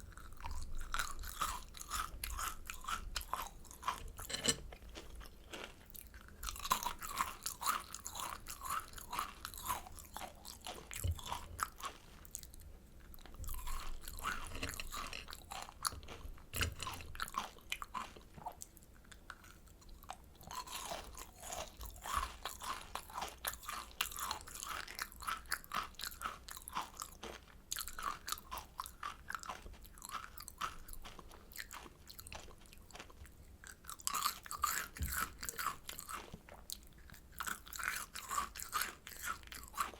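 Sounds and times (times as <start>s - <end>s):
crunching and chewing candy: 0.0s - 39.9s.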